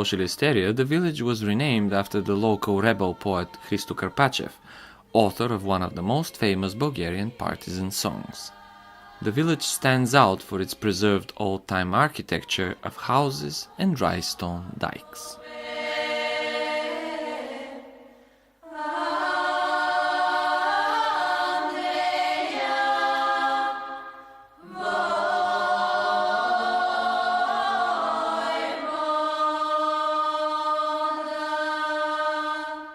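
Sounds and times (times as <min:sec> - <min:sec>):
choir singing held notes: 0:00.9 - 0:32.9.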